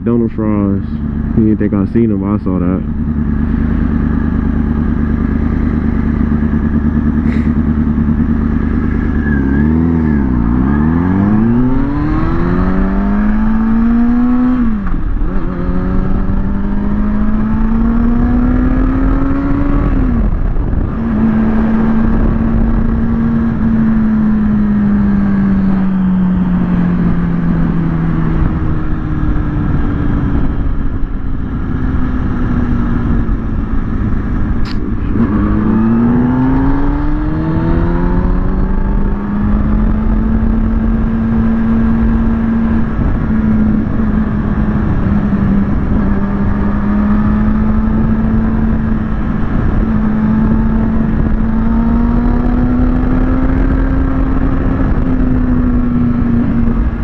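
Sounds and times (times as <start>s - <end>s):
motorcycle engine with upshifts: 0.0s - 57.0s.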